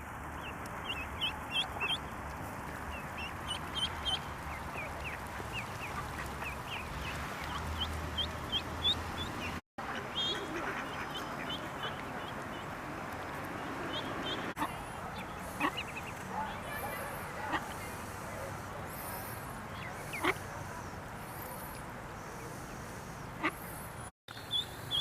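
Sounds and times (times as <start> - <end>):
ducklings peeping: 0.3 - 25.0.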